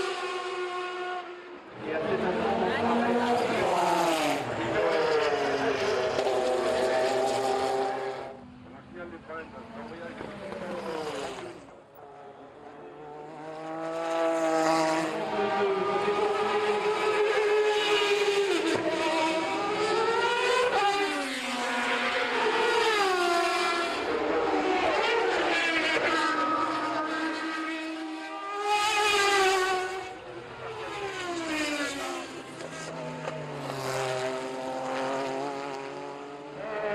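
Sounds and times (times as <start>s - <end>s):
racing car engine revving: 0.0s - 8.4s, 9.8s - 36.9s.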